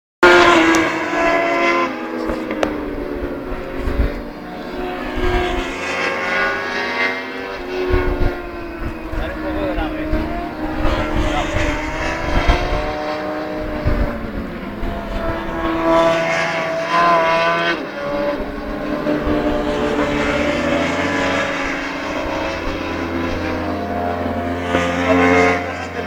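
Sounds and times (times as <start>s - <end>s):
racing sidecar engines revving: 0.2s - 26.0s.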